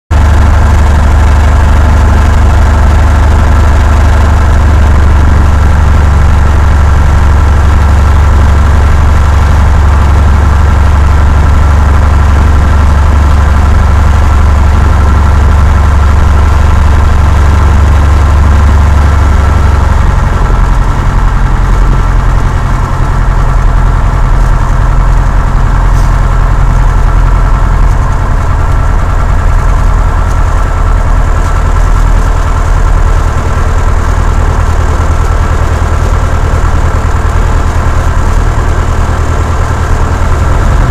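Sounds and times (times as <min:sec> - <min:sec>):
propeller plane engine droning: 0:00.1 - 0:40.9.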